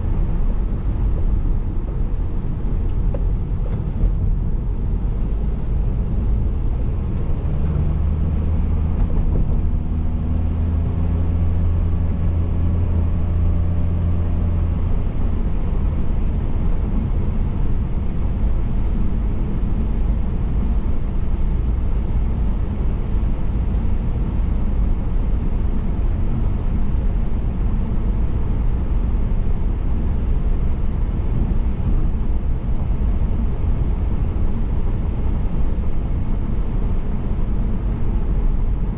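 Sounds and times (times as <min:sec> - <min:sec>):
engine hum: 0:00.0 - 0:38.9
road and tyre rumble: 0:00.0 - 0:38.9.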